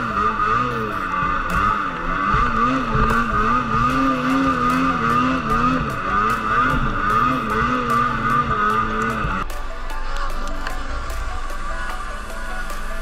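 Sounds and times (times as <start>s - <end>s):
snowmobile engine revving: 0.0s - 13.0s
steady high whine: 0.0s - 13.0s.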